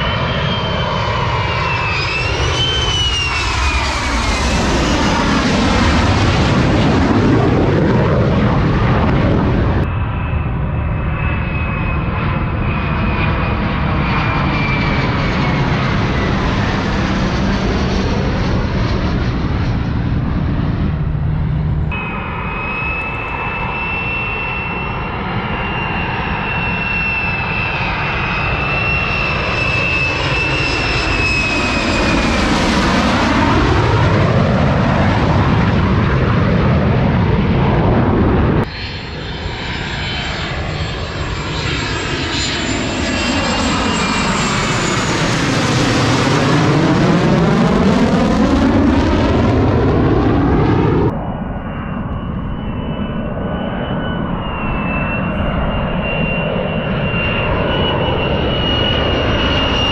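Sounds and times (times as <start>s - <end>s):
fighter jets flying overhead: 0.0s - 59.9s.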